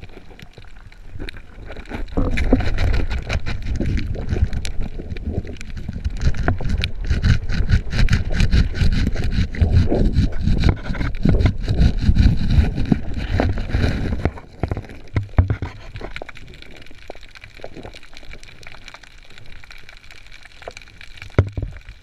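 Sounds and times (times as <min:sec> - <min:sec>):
clicks and crackles: 0:00.0 - 0:22.0
underwater scraping: 0:00.0 - 0:22.0
underwater water movement: 0:00.0 - 0:22.0.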